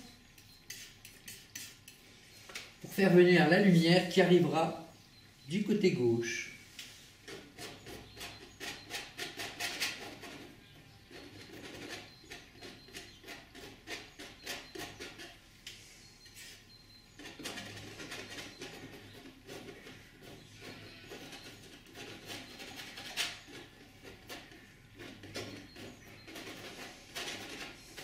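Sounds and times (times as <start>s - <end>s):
painting knife scraping canvas: 0.4s - 2.7s, 6.6s - 28.0s.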